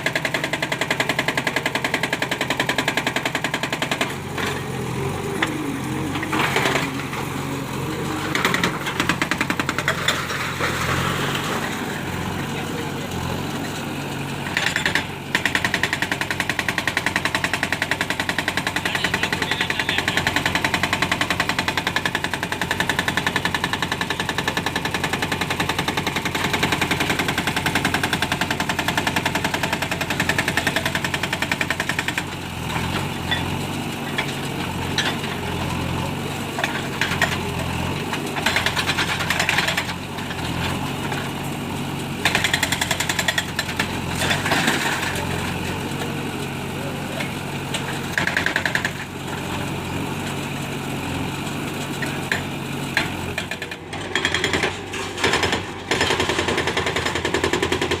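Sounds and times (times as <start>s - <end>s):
machinery hammering clatter: 0.0s - 12.0s, 14.4s - 35.7s, 36.4s - 41.4s, 42.1s - 45.9s, 47.2s - 49.5s, 51.8s - 58.0s
heavy machinery engine running: 0.0s - 58.0s.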